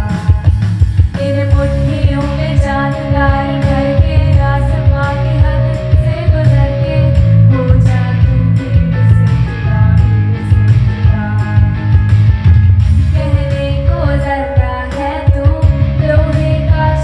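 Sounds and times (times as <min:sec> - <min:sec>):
girl singing: 0:00.0 - 0:12.2, 0:12.9 - 0:17.0
accompaniment with heavy bass beat: 0:00.0 - 0:17.0.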